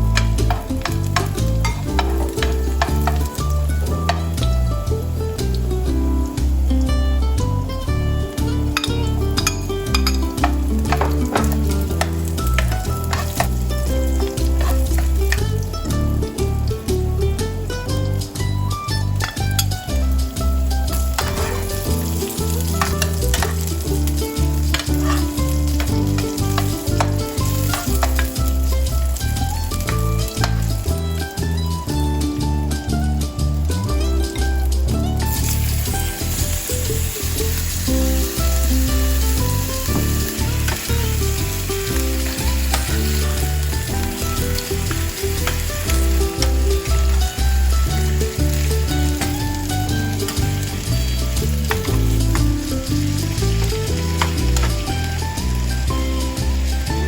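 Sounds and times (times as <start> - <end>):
stirring in a pan: 0.0 - 6.7, 8.2 - 57.0
background music with beat: 0.0 - 57.0
food sizzling in hot oil: 0.0 - 57.0.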